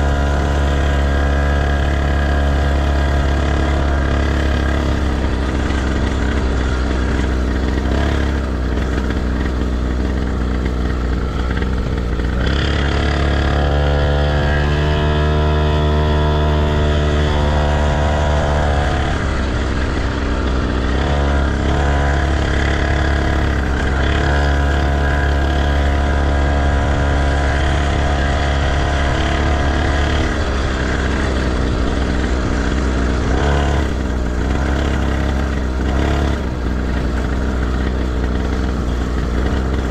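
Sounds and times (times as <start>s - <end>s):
heavy low rumble: 0.0s - 39.9s
motocross bike engine revving: 0.0s - 39.9s.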